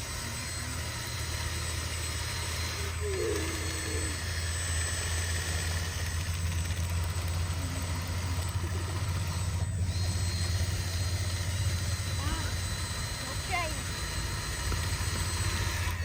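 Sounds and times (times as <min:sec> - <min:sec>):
motor running with low rumble: 0:00.0 - 0:16.0.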